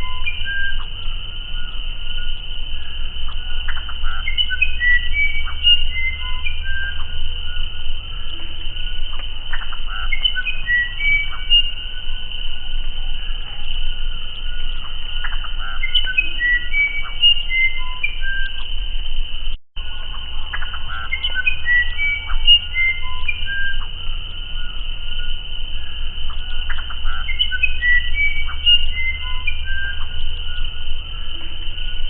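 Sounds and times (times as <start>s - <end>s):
bird singing flute-like whistles: 0.0s - 32.0s.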